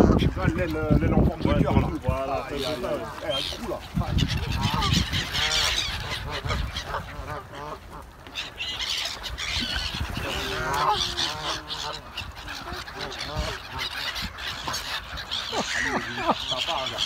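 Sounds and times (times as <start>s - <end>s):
geese honking: 0.0s - 17.0s
gulls crying: 0.0s - 17.0s.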